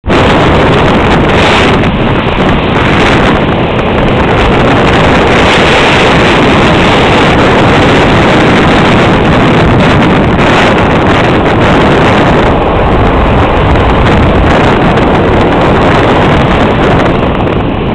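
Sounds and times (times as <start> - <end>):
surf breaking on beach: 0.0 - 17.9
wind buffeting microphone: 0.0 - 17.9.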